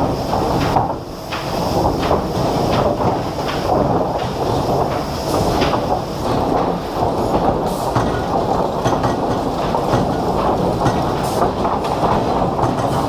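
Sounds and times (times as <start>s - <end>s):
wood-processing machinery rumbling: 0.0s - 13.0s.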